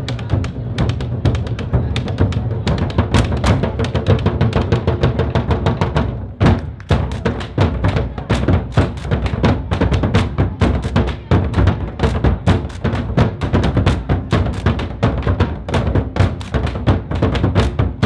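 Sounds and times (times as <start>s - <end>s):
percussion-driven music: 0.0s - 18.0s.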